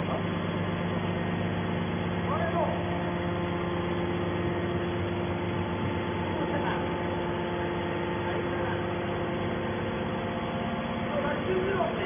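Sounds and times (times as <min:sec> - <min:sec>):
hydraulic baler motor humming: 0:00.0 - 0:12.0.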